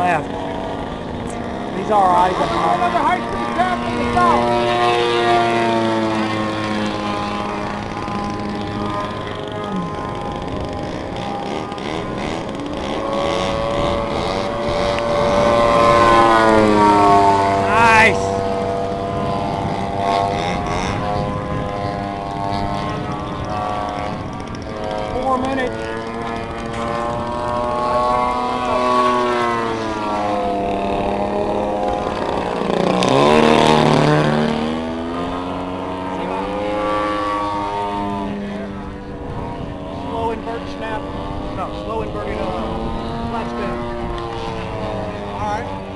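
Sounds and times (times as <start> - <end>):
model plane engine high throttle: 0.0 - 45.9.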